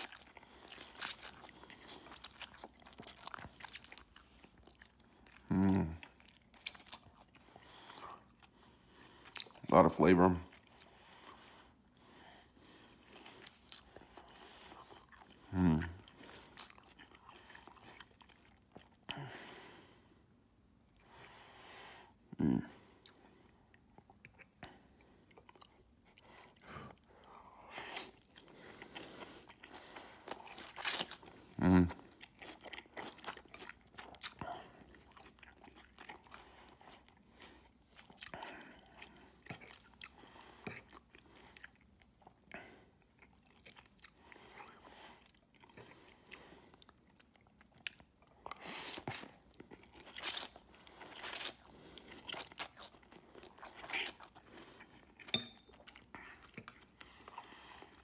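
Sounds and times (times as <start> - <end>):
person chewing food: 0.0 - 9.7, 10.5 - 21.5, 22.9 - 58.0.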